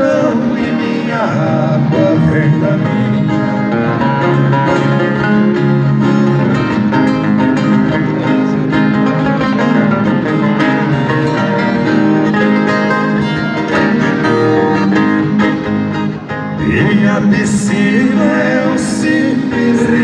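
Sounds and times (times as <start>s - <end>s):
strummed and picked acoustic guitars: 0.0s - 20.0s.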